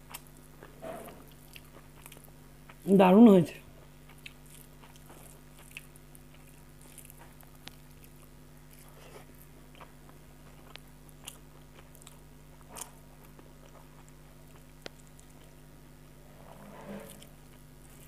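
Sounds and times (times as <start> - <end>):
person chewing: 0.0 - 2.8, 3.8 - 15.6
faint steady hum: 0.0 - 18.0.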